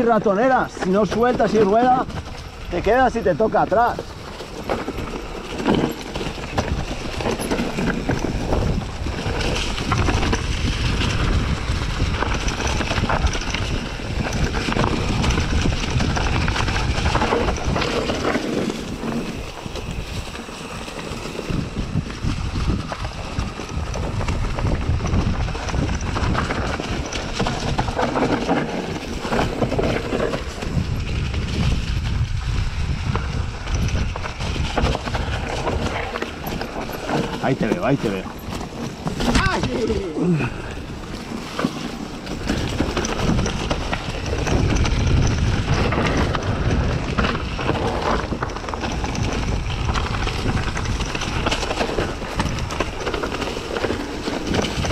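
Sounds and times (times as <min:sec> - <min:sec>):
bike rattling over rocks: 0:00.0 - 0:54.9
wind buffeting microphone: 0:00.0 - 0:54.9.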